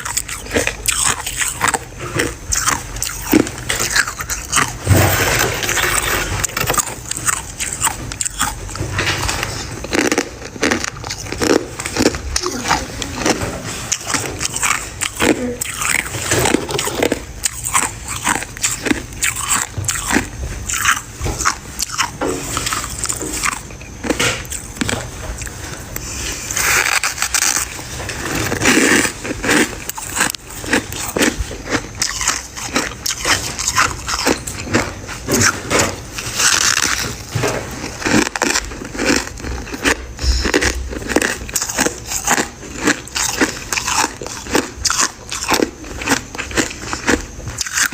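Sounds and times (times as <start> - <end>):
crunching and chewing ice: 0.0 - 47.9.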